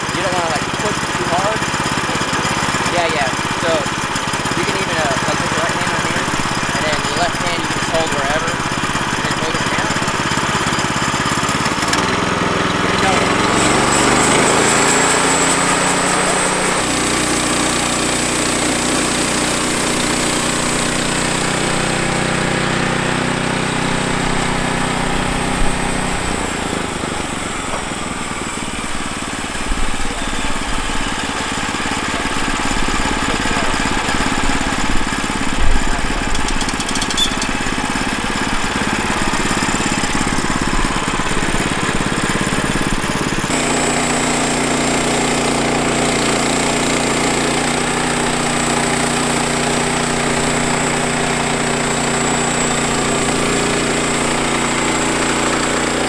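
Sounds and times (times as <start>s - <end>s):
gasoline engine running: 0.0s - 56.0s.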